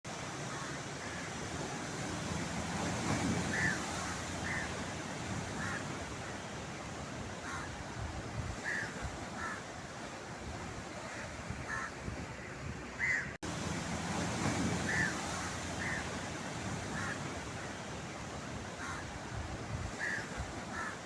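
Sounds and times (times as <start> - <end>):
sea surf: 0.1 - 21.0.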